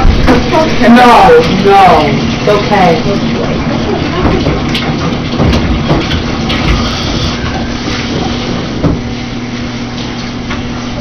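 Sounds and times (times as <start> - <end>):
water running in bathtub: 0.0 - 11.0.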